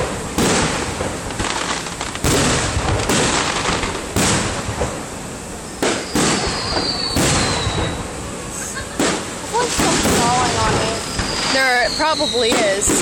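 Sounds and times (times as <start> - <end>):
fireworks bangs: 0.0 - 13.0
fireworks crackle and hiss: 0.0 - 13.0.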